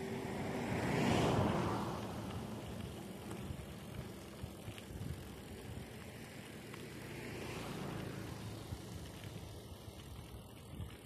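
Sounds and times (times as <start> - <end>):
bike rolling and rattling: 0.0 - 11.0.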